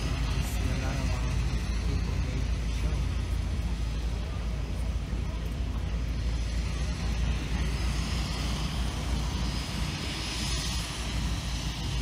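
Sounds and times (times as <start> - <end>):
propeller plane engine: 0.0 - 12.0.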